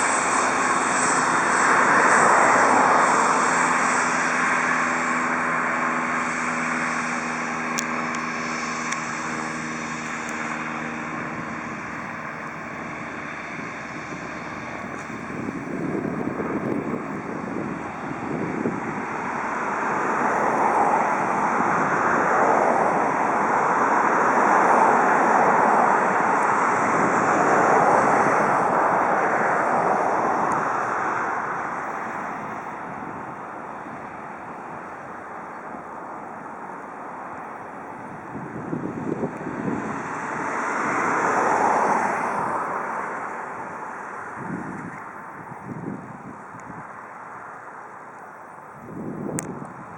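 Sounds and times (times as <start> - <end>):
airplane engine running: 0.0 - 49.9.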